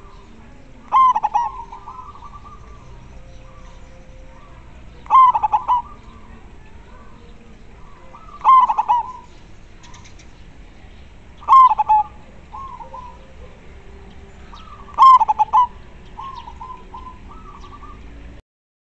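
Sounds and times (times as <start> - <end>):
dove cooing: 0.0 - 18.4.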